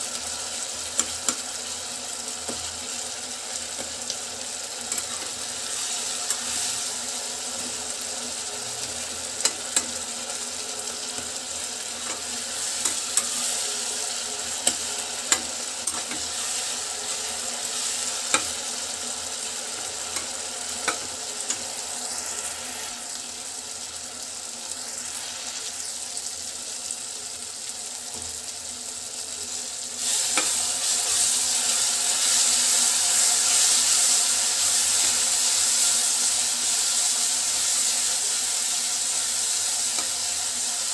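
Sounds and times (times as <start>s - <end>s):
onions sizzling in oil: 0.0s - 40.9s.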